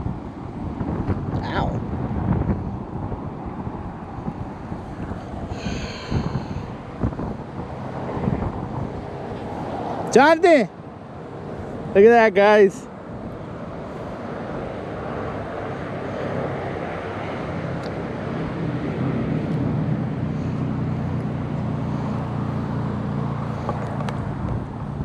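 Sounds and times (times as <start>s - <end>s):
distant engine drone: 0.0s - 25.0s.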